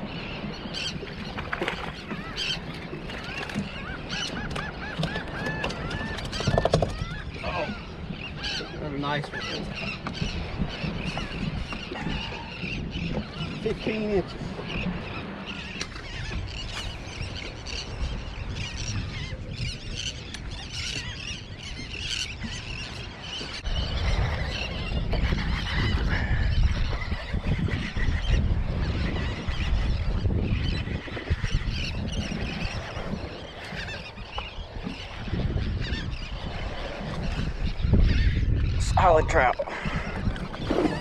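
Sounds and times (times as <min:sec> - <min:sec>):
birds calling: 0:00.0 - 0:41.0.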